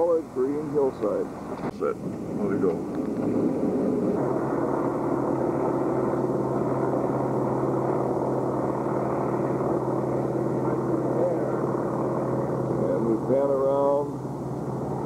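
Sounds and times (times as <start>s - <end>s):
vehicle engine drone from inside: 1.9s - 15.0s.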